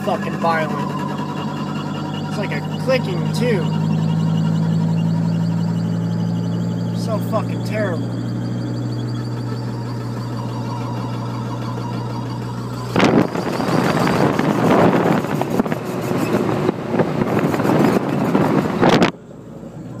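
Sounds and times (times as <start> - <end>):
car cabin drone: 0.0 - 20.0
harsh rapid suspension rattling: 0.0 - 20.0.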